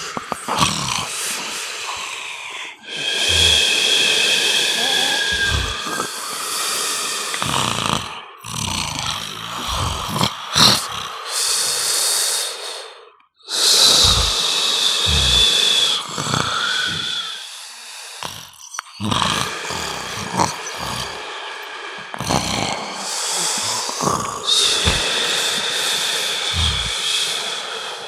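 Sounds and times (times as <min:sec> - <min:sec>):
man snoring loudly: 0:00.0 - 0:12.9, 0:13.5 - 0:28.0.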